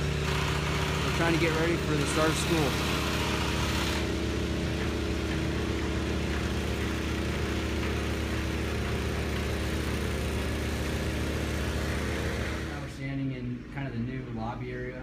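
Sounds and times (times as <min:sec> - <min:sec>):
engine idling: 0:00.0 - 0:13.1.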